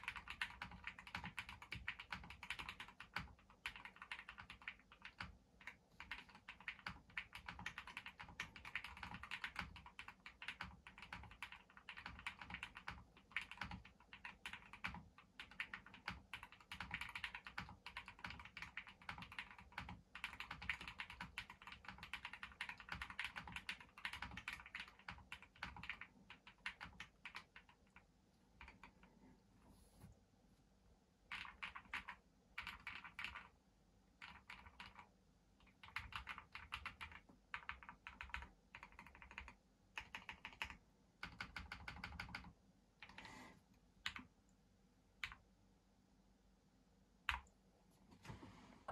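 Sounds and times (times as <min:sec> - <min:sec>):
fast mechanical keyboard typing: 0:00.0 - 0:29.1, 0:31.3 - 0:33.5, 0:34.2 - 0:43.2, 0:44.0 - 0:44.2.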